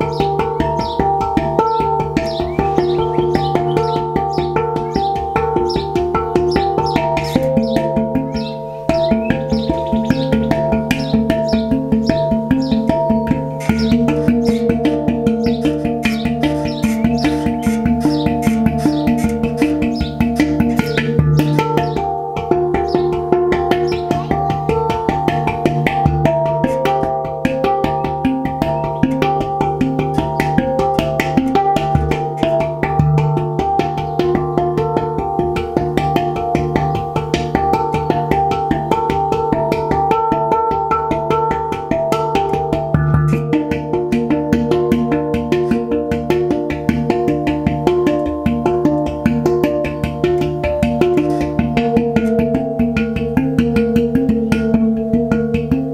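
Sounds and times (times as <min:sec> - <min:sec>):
handpan played by hand: 0:00.0 - 0:55.9.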